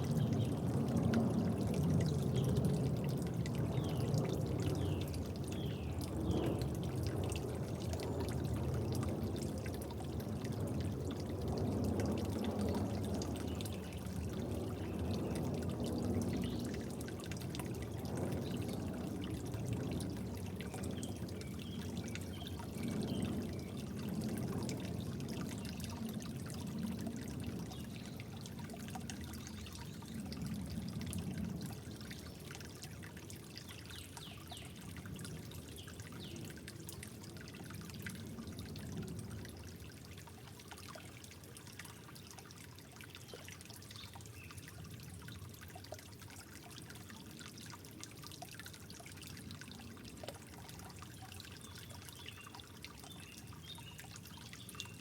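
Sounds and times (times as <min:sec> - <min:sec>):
faint water drips: 0:00.0 - 0:55.0
water trickling and pouring: 0:00.0 - 0:55.0.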